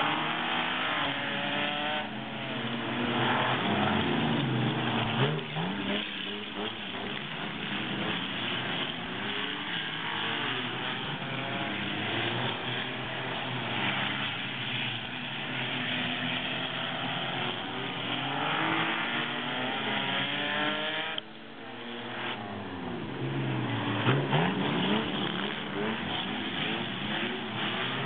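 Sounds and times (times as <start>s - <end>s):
engine revving loudly: 0.0s - 14.2s, 16.0s - 21.2s, 23.8s - 28.0s
race car engines: 0.0s - 28.0s.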